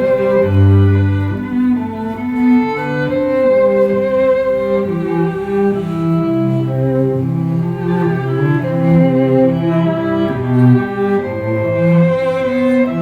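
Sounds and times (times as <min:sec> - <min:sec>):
bowed strings playing slow notes: 0:00.0 - 0:13.0.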